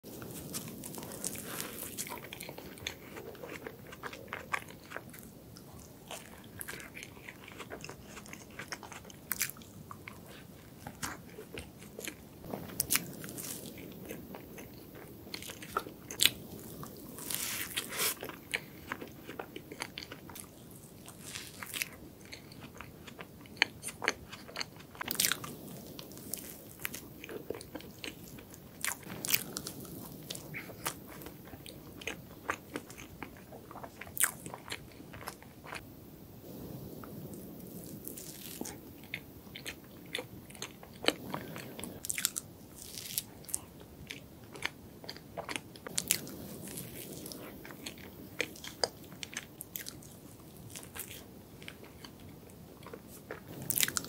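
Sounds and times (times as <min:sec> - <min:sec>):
biting and chewing soft cake: 0:00.0 - 0:35.9, 0:36.5 - 0:54.0.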